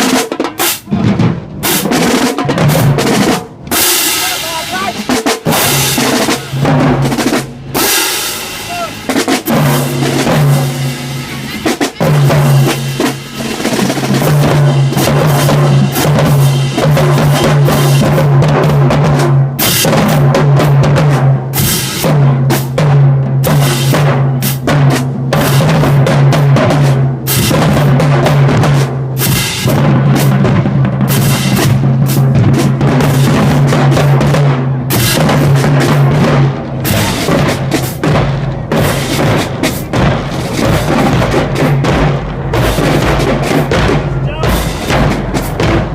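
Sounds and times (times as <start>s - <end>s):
drumline with bass drums and snares: 0.0s - 45.9s
marching band playing: 0.0s - 45.9s.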